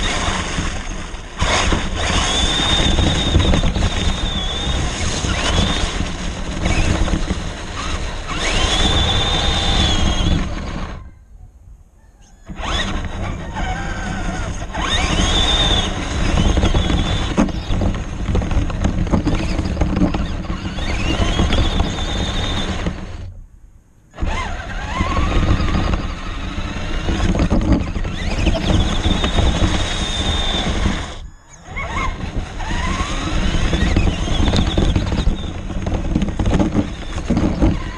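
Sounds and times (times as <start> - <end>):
tyres rumbling through slush: 0.0 - 11.0, 12.6 - 23.3, 24.2 - 37.9
rc car motor whining: 0.0 - 11.2, 12.3 - 23.3, 24.1 - 37.9.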